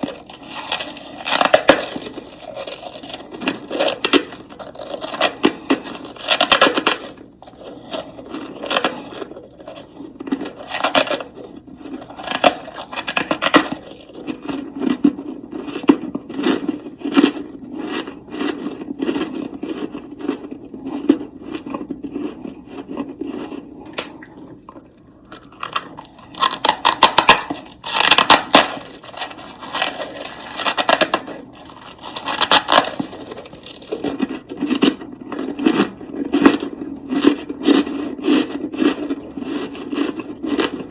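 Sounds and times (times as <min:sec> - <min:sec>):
frost crunching and scraping: 0:00.0 - 0:40.9.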